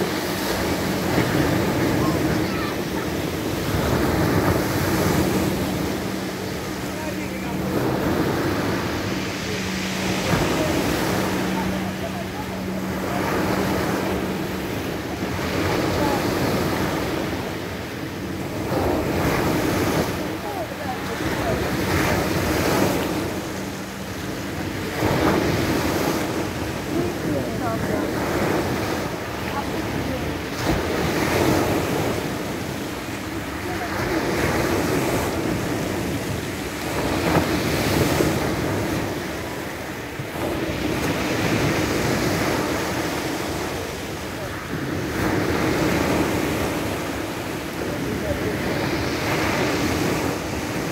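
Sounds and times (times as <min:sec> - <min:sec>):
waves on pebble beach: 0:00.0 - 0:50.9.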